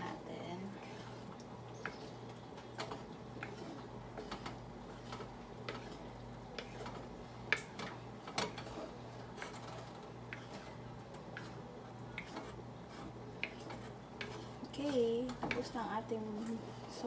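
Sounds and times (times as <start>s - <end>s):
thick sauce being stirred: 0.0s - 17.0s.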